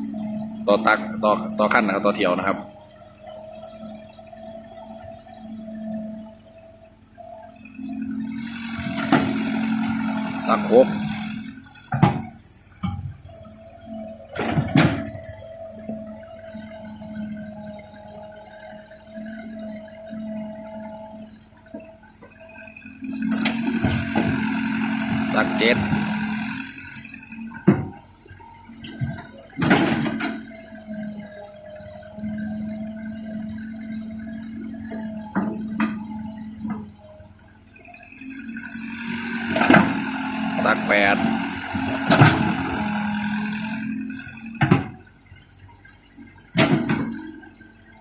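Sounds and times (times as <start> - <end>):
excavator diesel engine running: 0.0 - 48.0
faint steady whine: 0.0 - 48.0.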